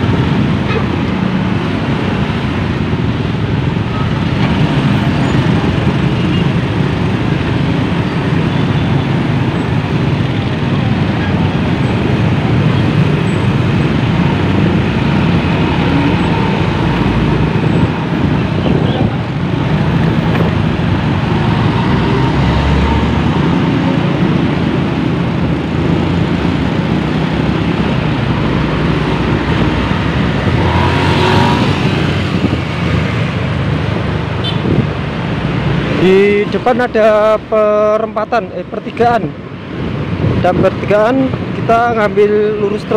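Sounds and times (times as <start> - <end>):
traffic of motorbikes and trucks: 0.0 - 42.9.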